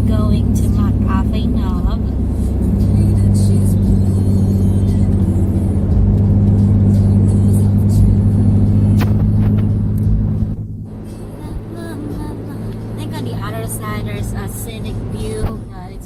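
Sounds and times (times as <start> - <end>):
car interior engine and road drone: 0.0 - 16.0.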